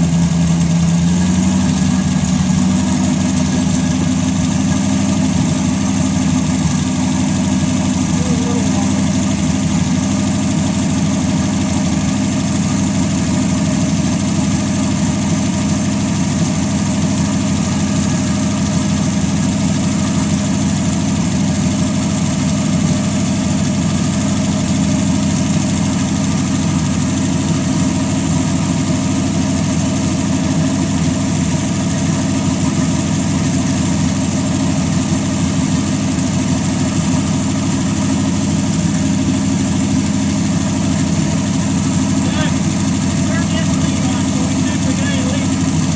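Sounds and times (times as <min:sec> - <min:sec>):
racing engine idling: 0:00.0 - 0:45.9.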